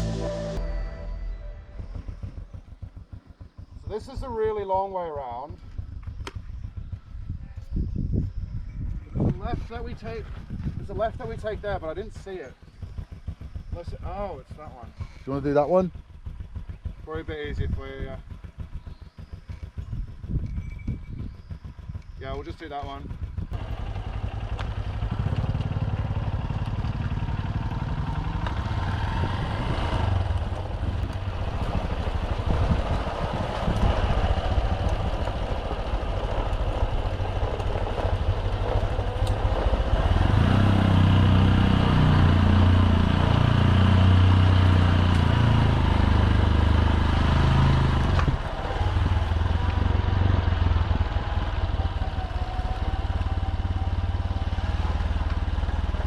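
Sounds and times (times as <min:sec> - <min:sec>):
motorbike engine running: 0:00.0 - 0:08.7, 0:09.4 - 0:56.0
road and wind noise: 0:00.0 - 0:56.0.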